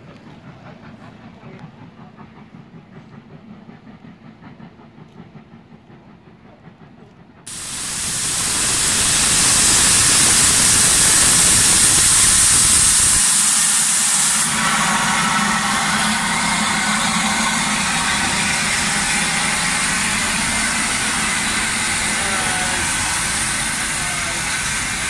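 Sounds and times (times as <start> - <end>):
steam hissing from locomotive: 0.4 - 25.0.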